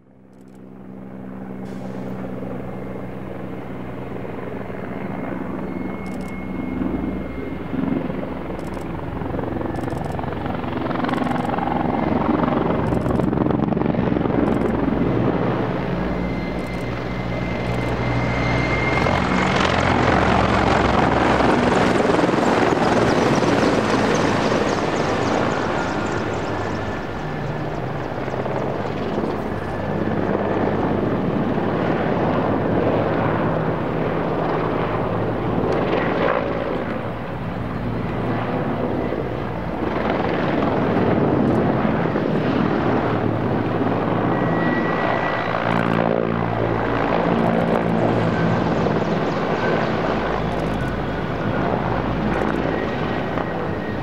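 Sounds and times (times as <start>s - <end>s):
helicopter rotor beat: 0.0s - 54.0s
turbine engine whine: 0.0s - 54.0s.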